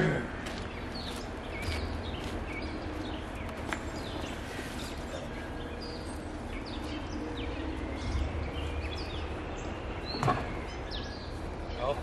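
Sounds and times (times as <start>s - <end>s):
steady low rumble: 0.0s - 12.0s
small birds chirping: 0.2s - 12.0s.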